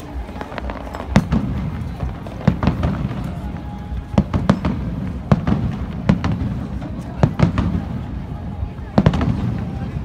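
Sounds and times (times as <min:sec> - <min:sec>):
fireworks booming: 0:00.0 - 0:10.0
fireworks crackling: 0:00.0 - 0:10.0.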